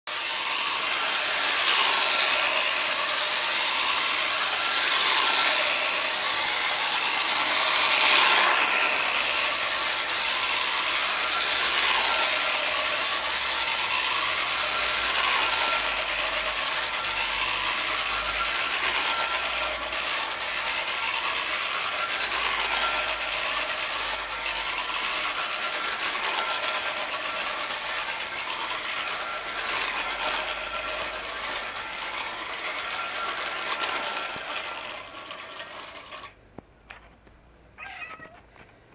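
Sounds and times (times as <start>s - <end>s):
clockwork motor whirring: 0.1s - 37.2s
toy train wheels rattling on track: 0.1s - 38.8s.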